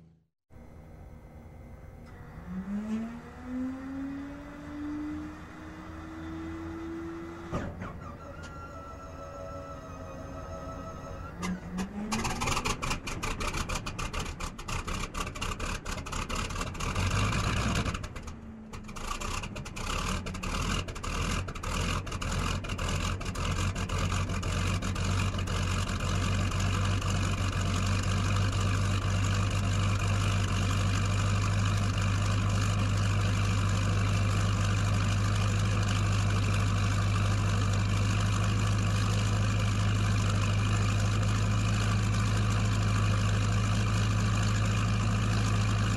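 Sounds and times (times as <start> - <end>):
vehicle engine starting and idling: 1.7 - 45.9.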